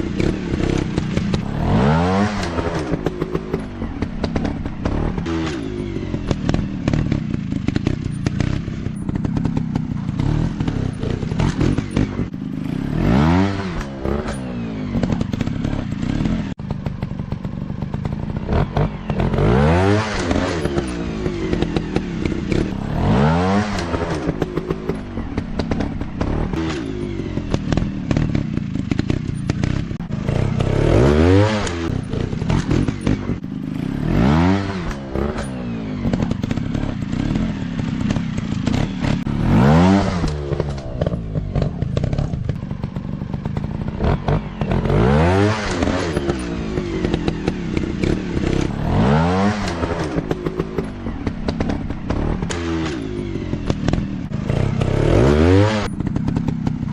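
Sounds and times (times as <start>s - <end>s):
clatter: 0.0s - 56.9s
dirt bike engine revving: 0.0s - 56.9s.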